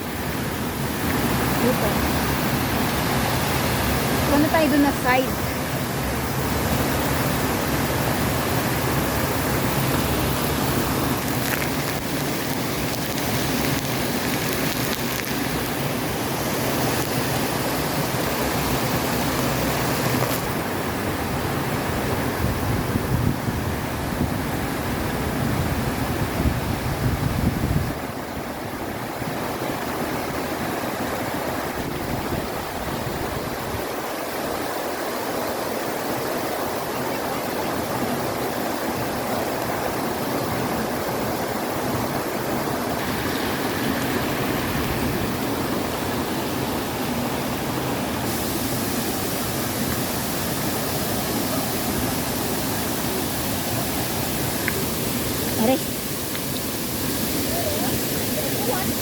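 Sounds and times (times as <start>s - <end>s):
mountain stream rushing: 0.0s - 59.0s
wind rumble on microphone: 0.0s - 59.0s.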